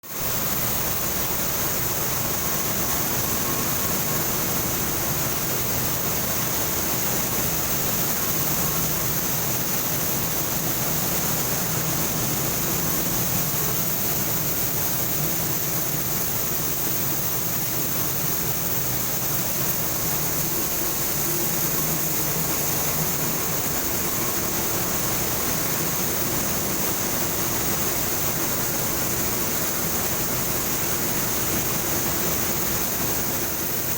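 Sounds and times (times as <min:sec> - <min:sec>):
machine running with hiss: 0:00.0 - 0:33.9.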